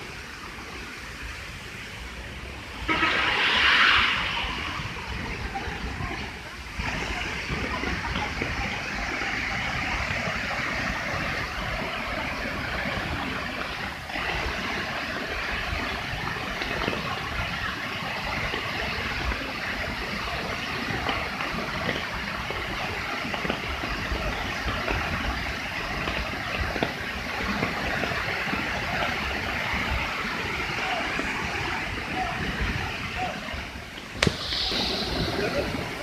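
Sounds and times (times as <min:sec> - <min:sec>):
waterfall roaring: 0:00.0 - 0:36.0.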